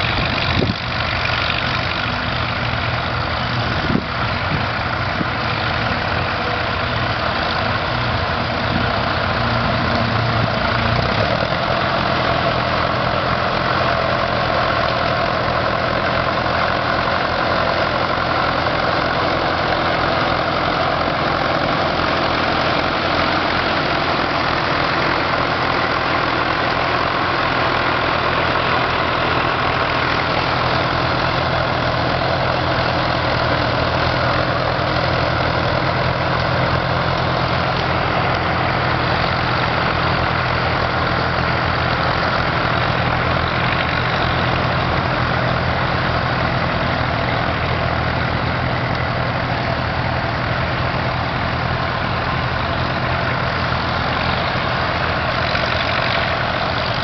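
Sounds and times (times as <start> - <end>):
tractor diesel engines running: 0.0 - 57.0.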